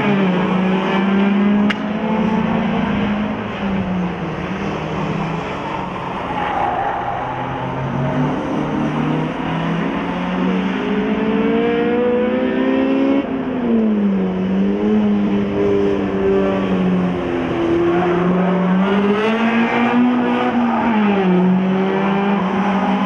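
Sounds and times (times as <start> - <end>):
race car engines running hard: 0.0 - 23.0.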